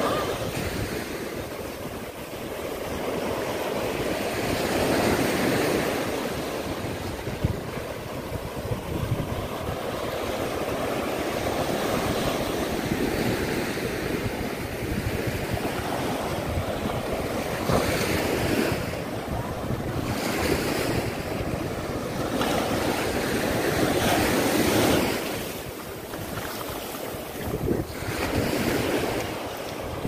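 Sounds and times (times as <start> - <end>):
small waves breaking on sand: 0.0 - 30.0.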